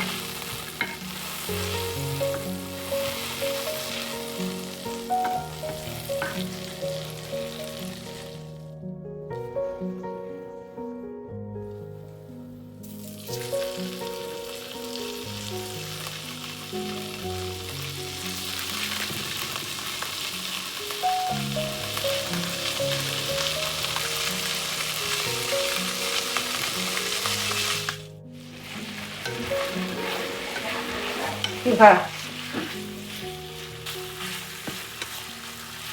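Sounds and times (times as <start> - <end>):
food sizzling in a pan: 0.0 - 8.6, 12.8 - 35.9
background music: 0.0 - 35.9.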